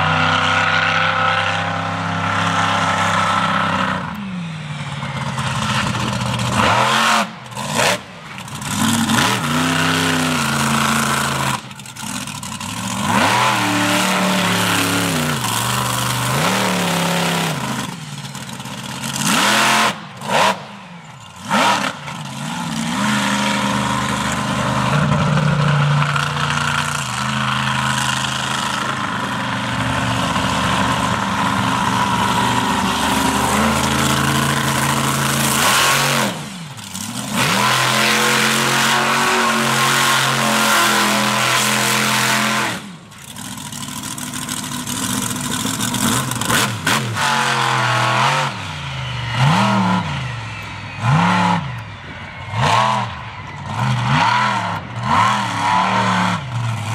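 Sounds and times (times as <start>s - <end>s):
monster truck engine revving: 0.0s - 56.9s.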